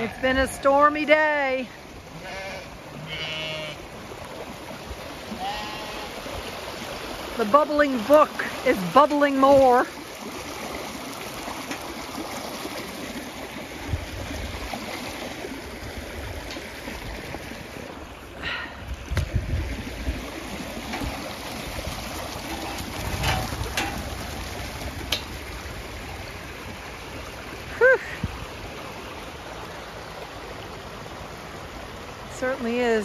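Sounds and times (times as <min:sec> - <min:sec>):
floodwater rushing: 0:00.0 - 0:33.0.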